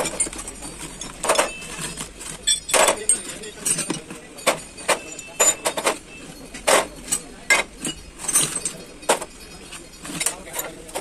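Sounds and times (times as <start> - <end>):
metal parts clinking: 0.0 - 11.0.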